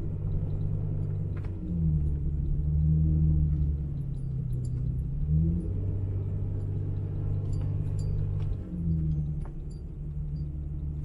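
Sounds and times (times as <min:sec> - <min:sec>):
pickup engine running under load: 0:00.0 - 0:11.0.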